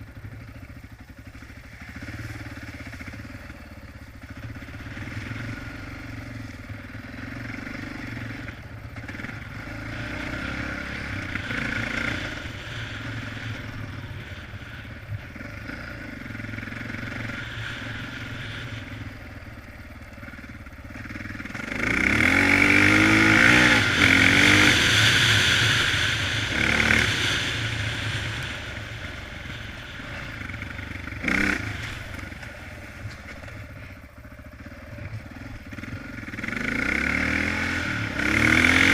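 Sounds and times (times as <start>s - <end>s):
dirt bike engine revving: 1.2s - 38.9s.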